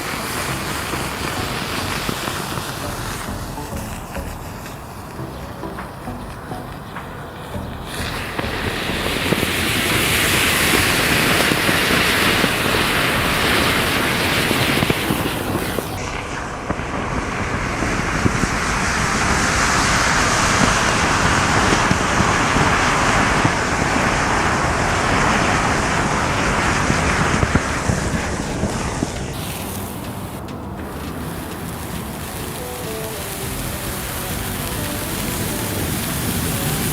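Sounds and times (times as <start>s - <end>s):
matches flaring and burning: 0.0s - 36.9s.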